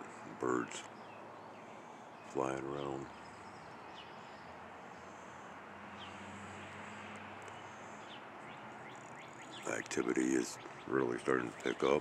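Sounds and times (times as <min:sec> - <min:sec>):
faint outdoor ambience: 0:00.0 - 0:12.0
songbirds chirping: 0:00.0 - 0:12.0.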